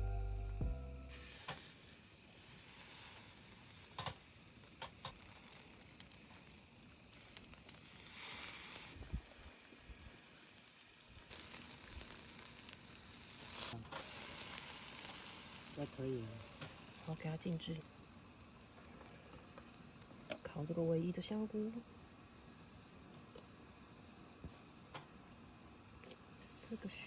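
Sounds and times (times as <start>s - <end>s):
food sizzling on a grill: 1.0s - 27.0s.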